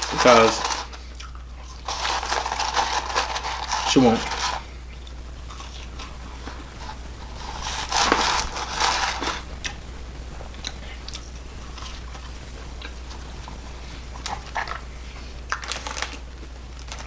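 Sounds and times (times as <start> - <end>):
person chewing crunchy food: 0.0 - 9.8, 10.4 - 17.0
low electrical hum: 0.0 - 17.0.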